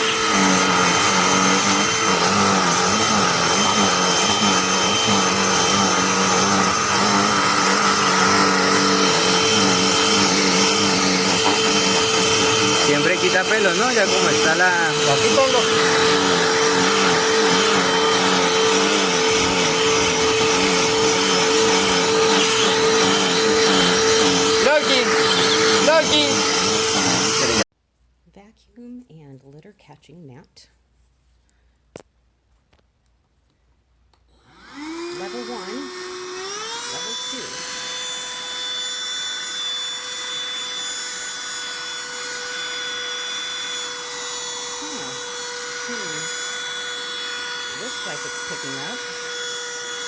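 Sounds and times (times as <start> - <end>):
handheld vacuum running: 0.0 - 27.7, 34.3 - 50.0.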